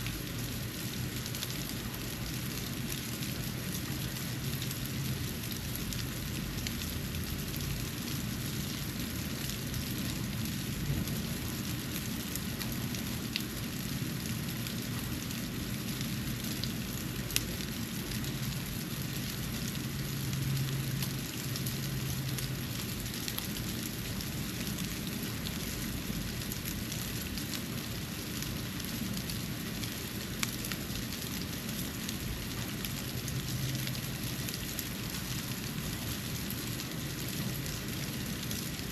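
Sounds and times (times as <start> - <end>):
snow falling soft hiss: 0.0 - 38.9.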